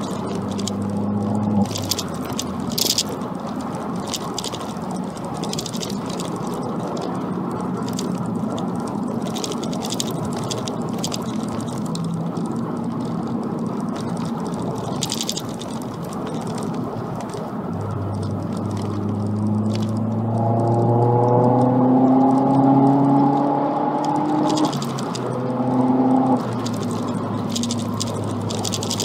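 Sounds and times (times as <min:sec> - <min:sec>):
car engine and exhaust: 0:00.0 - 0:29.0
road and tyre noise: 0:00.0 - 0:29.0.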